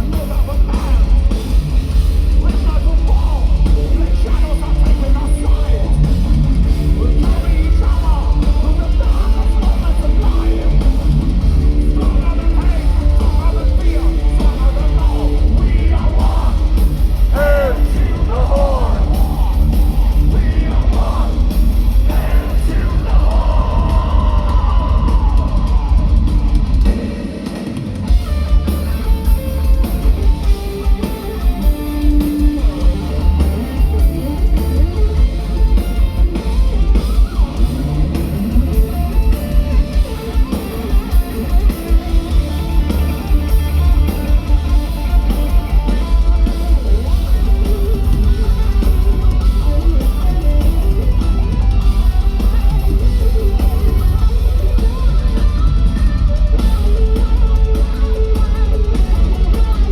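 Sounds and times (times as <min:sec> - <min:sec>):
distorted electric guitars: 0:00.0 - 0:59.9
fast heavy drum kit: 0:00.0 - 0:59.9.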